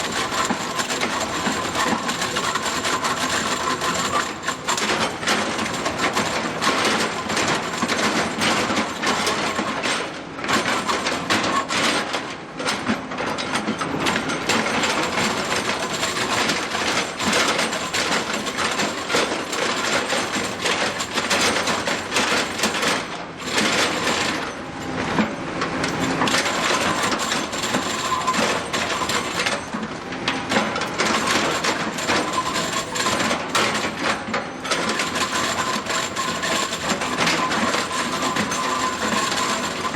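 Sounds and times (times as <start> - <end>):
drum cutter milling stone: 0.0 - 9.8, 14.5 - 24.6, 26.0 - 29.8, 30.6 - 39.9.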